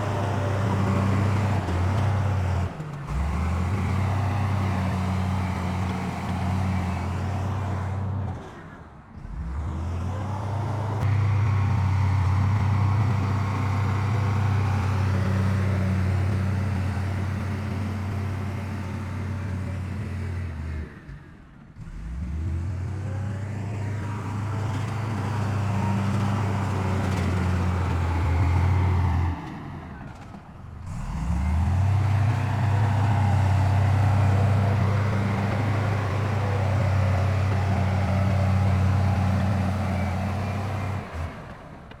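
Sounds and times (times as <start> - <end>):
heavy machinery diesel engine: 0.0 - 42.0.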